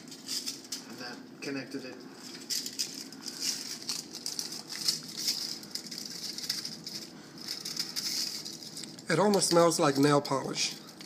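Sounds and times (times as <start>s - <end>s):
thin foil crinkling and rustling: 0.0s - 11.0s.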